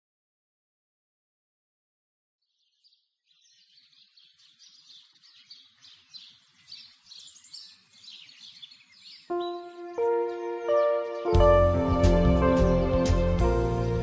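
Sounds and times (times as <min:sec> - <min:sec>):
birds chirping: 0:02.4 - 0:14.0.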